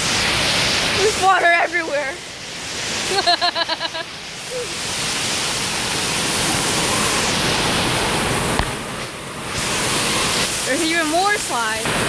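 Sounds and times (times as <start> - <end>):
water spraying from fountains: 0.0 - 12.0.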